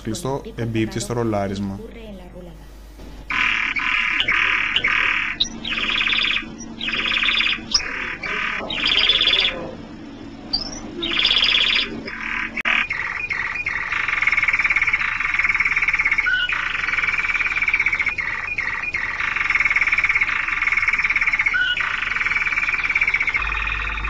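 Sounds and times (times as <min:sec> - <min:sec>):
canary singing trills: 0:02.8 - 0:24.0.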